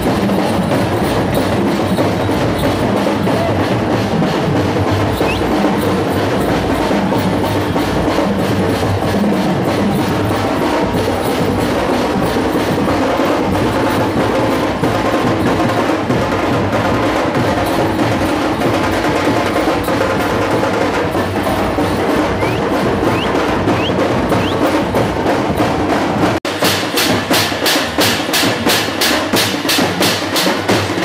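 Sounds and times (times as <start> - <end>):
drums beaten fast: 0.0 - 31.0.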